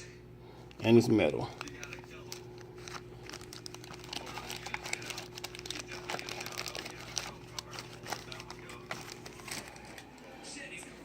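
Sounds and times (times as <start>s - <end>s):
steady low hum: 0.0s - 11.0s
packaging crinkling and rustling: 0.7s - 11.0s.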